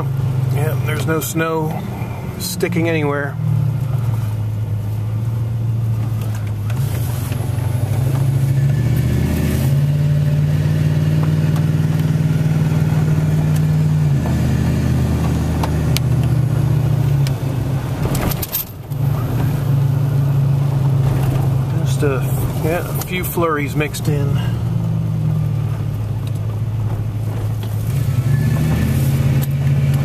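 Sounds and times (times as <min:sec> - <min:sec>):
engine drone inside car: 0:00.0 - 0:30.0
road noise: 0:00.0 - 0:30.0.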